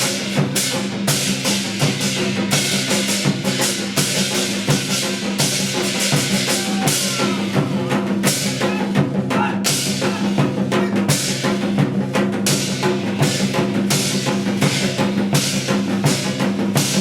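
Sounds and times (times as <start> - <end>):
fast dense drumming: 0.0 - 17.0.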